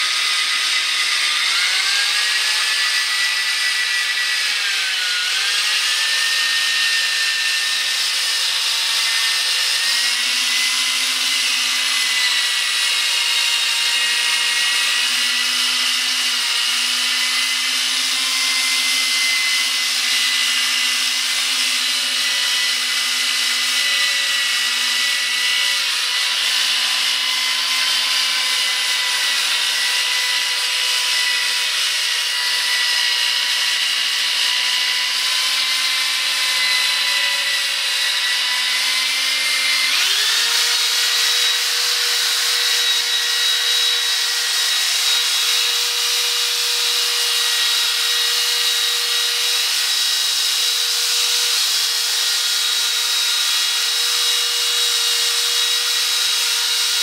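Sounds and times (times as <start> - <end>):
electric drill motor whine: 0.0 - 57.0.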